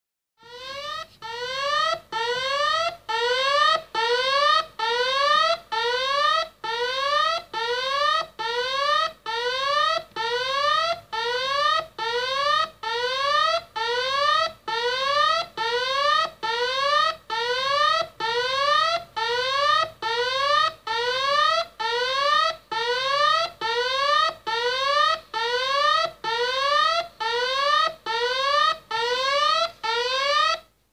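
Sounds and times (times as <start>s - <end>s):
electronic alarm upward sweeping tone: 0.4s - 30.6s.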